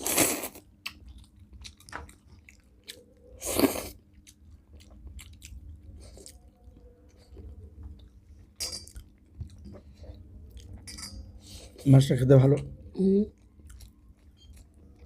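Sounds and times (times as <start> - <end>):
person chewing food: 0.0 - 10.9, 13.3 - 15.0.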